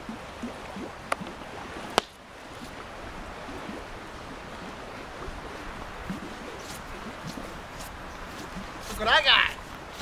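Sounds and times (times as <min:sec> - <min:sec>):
rushing outdoor background noise: 0:00.0 - 0:10.0.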